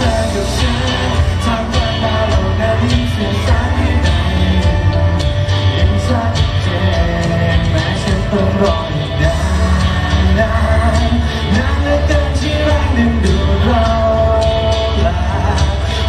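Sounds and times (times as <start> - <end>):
man singing into microphone: 0.0 - 16.0
pop backing music with bass: 0.0 - 16.0.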